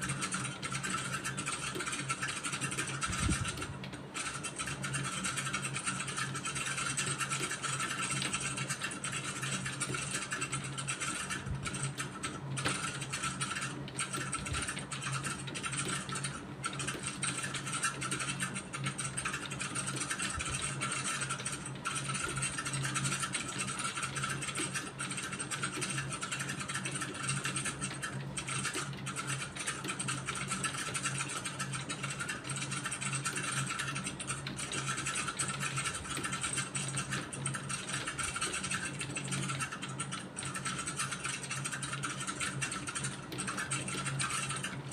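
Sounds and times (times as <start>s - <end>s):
keyboard typing: 0.0s - 44.9s
steady low hum: 0.0s - 44.9s.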